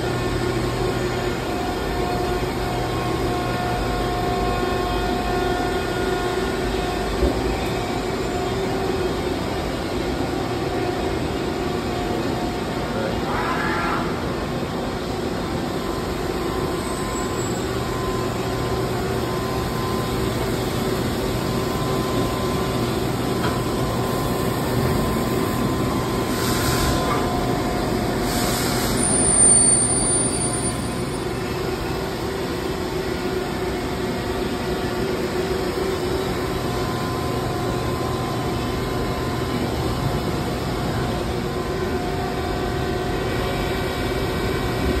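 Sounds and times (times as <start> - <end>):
machine mechanical hum: 0.0 - 45.0.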